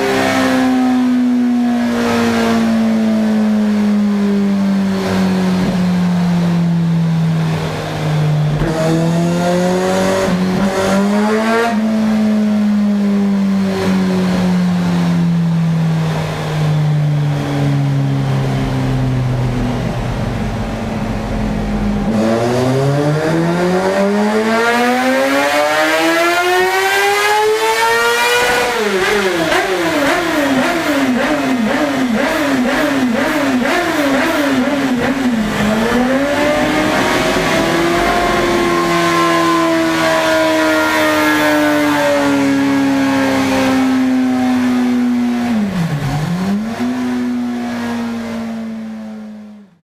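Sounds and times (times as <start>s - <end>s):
sport bike engine revving: 0.0s - 49.4s.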